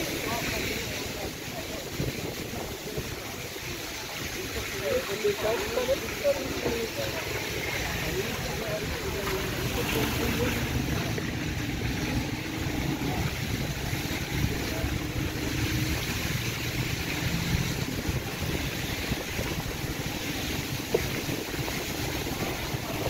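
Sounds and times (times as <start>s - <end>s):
tyres on wet muddy road: 0.0s - 23.0s
vehicle engine running: 2.3s - 23.0s.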